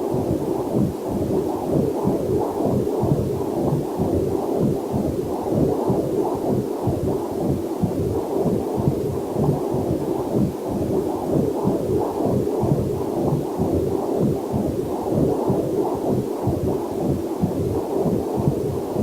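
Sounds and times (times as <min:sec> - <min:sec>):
fetal heartbeat pulsing whooshes: 0:00.0 - 0:19.0.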